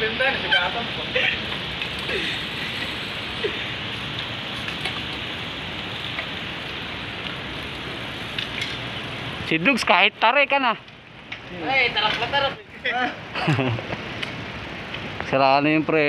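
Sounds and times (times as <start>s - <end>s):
bicycle tyres on road: 0.0s - 16.0s.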